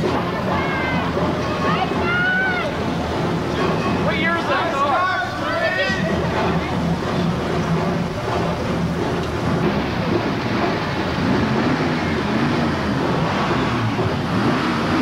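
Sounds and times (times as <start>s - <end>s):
car engines cruising past: 0.0s - 15.0s
steady rushing noise: 0.0s - 15.0s.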